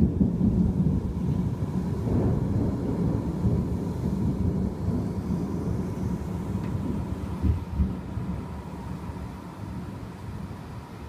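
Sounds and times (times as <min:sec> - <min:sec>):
thunder: 0:00.0 - 0:09.0
wind and rain rumble: 0:00.0 - 0:11.0.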